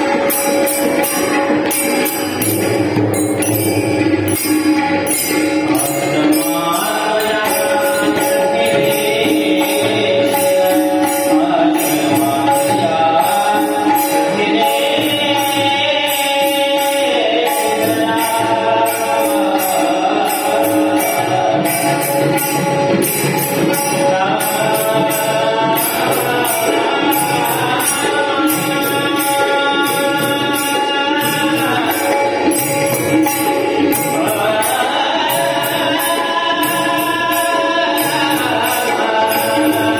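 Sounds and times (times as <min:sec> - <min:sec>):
jingling percussion beat: 0:00.0 - 0:39.9
person singing devotional song: 0:05.0 - 0:39.9.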